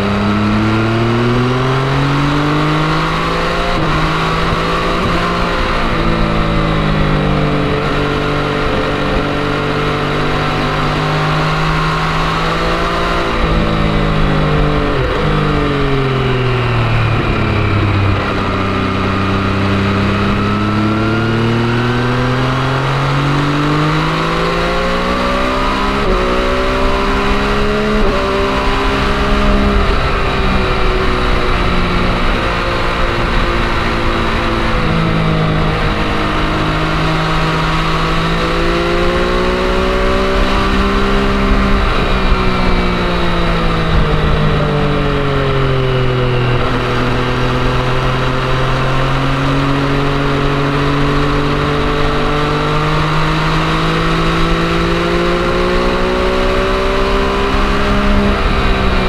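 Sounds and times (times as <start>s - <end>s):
motorcycle engine revving: 0.0s - 59.0s
wind noise: 0.0s - 59.0s.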